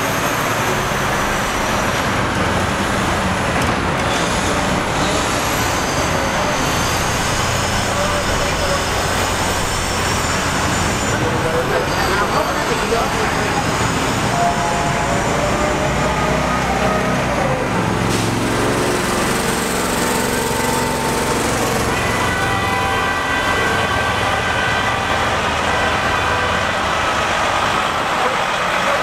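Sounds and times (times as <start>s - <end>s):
city street traffic: 0.0s - 29.0s
truck diesel engine running: 0.0s - 29.0s.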